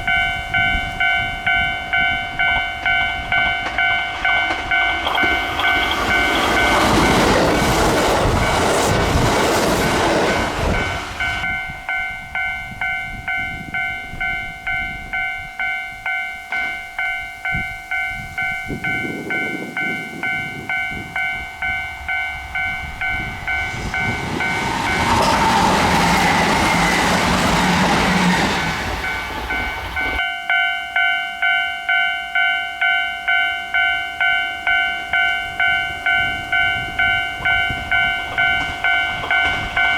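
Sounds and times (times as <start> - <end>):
electric train passing: 0.0 - 39.9
level-crossing warning bell ringing: 0.0 - 39.9.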